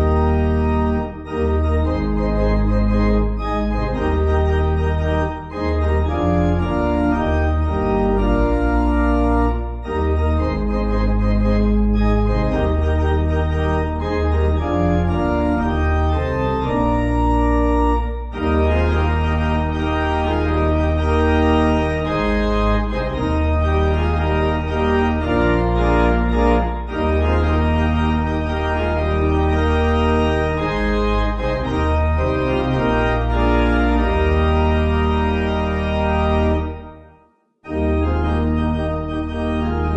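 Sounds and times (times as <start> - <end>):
organ playing hymn chords: 0.0 - 39.9.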